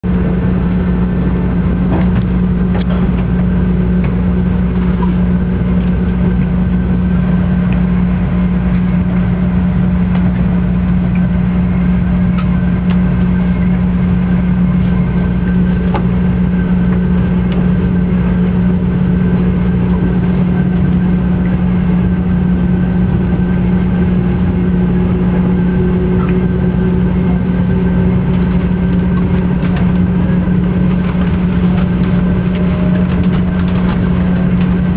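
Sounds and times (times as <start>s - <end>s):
train rumble with low hum: 0.0s - 34.9s.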